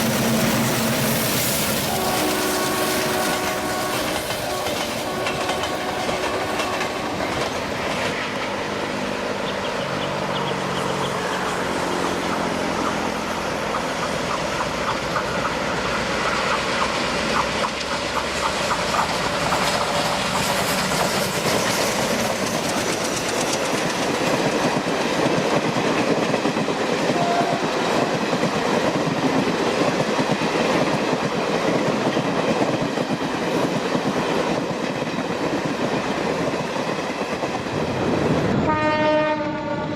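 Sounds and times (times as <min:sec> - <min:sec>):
train wheels clattering on rails: 0:00.0 - 0:39.2
diesel locomotive engine hum: 0:00.0 - 0:39.9.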